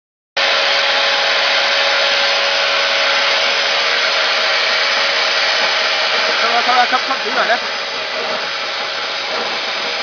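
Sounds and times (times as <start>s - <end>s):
blower machine rushing air: 0.4s - 10.0s.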